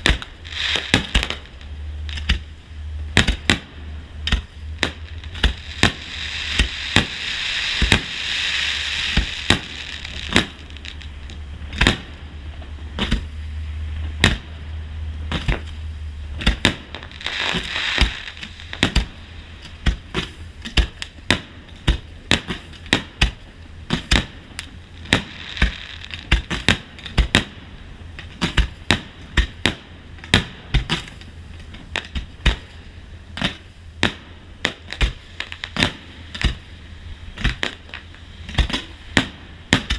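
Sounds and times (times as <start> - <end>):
fireworks bangs: 0.0 - 2.5, 3.1 - 13.3, 14.1 - 14.6, 16.3 - 32.8, 33.4 - 36.7, 37.3 - 39.9
fireworks crackling: 0.0 - 39.9.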